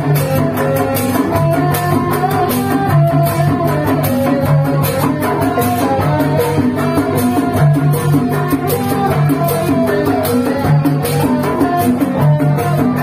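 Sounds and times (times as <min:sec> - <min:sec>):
drums beating: 0:00.0 - 0:13.0
procession music melody: 0:00.0 - 0:13.0.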